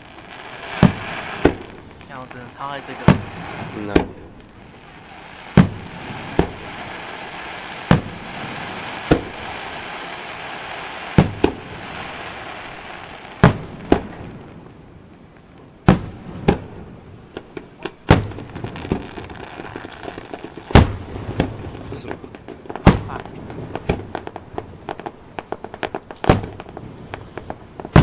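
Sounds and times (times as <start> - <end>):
firework booms: 0.0 - 28.0
small firework pops: 0.0 - 28.0
steady hiss: 0.0 - 28.0.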